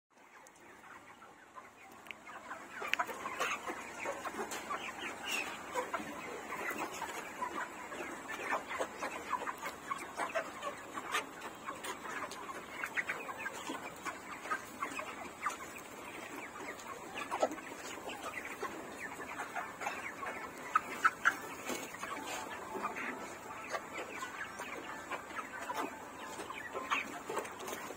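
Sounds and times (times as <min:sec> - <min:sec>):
chickens clucking: 0:00.2 - 0:27.9.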